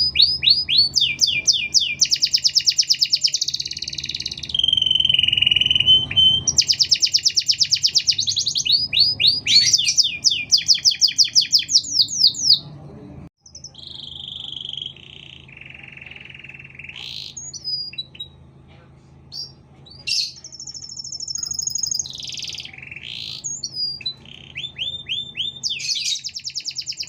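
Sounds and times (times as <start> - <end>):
canary singing: 0.0 - 12.8, 13.4 - 18.5, 19.3 - 27.0.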